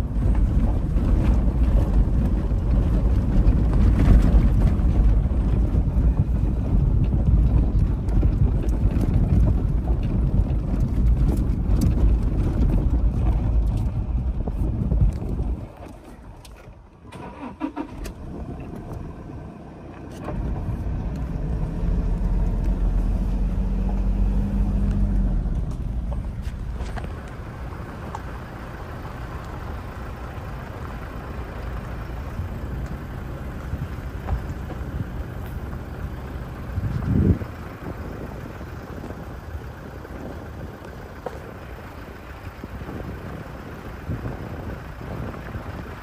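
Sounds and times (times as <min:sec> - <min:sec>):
vehicle engine running: 0:00.0 - 0:46.0.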